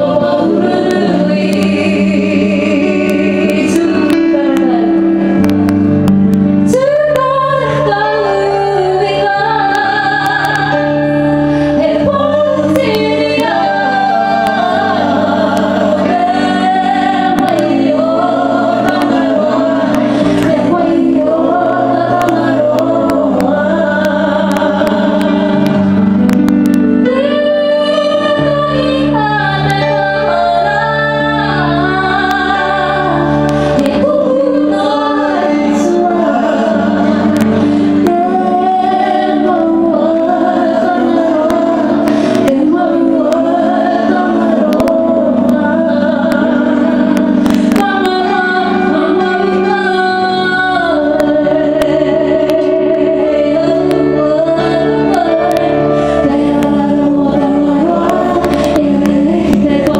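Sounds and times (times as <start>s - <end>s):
electric piano chords: 0.0s - 59.9s
women singing into microphones: 0.0s - 59.9s.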